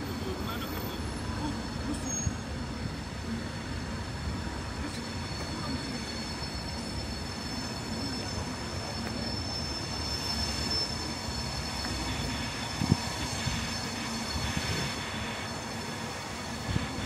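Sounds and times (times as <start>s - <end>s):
rail vehicle whine and rumble: 0.0s - 17.0s.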